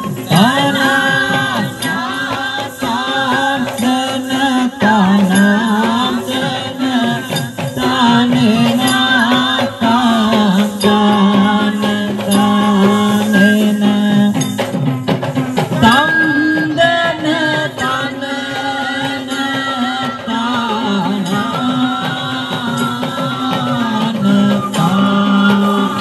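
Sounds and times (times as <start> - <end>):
drums beaten quickly: 0.0 - 26.0.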